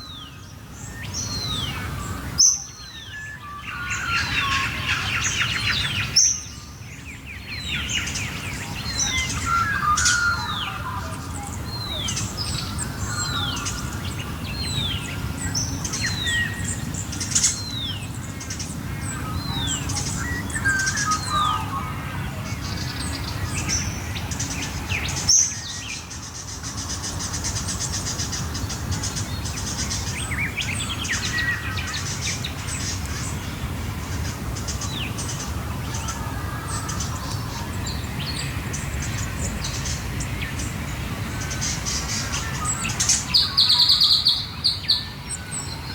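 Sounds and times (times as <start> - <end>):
birds chirping and calling: 0.0 - 45.9.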